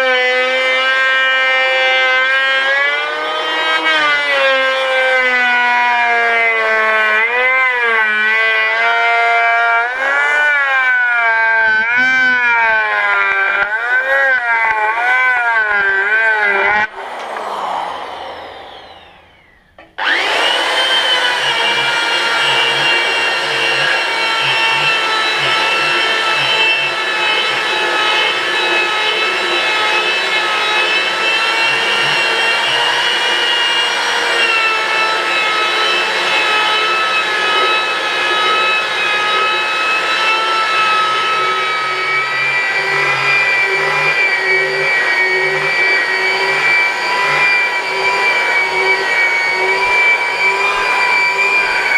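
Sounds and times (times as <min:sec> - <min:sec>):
belt sander on wood: 0:00.0 - 0:51.9
power tool motor winding down: 0:00.0 - 0:51.9.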